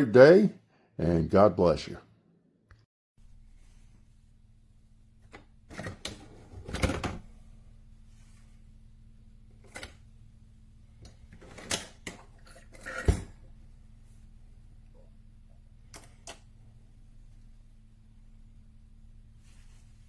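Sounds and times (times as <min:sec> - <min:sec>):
low electrical hum: 0:03.2 - 0:20.0.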